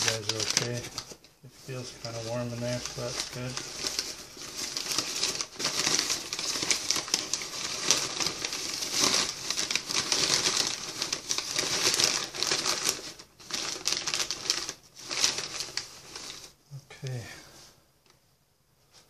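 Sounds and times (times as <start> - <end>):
paper packing crinkling: 0.0 - 16.6.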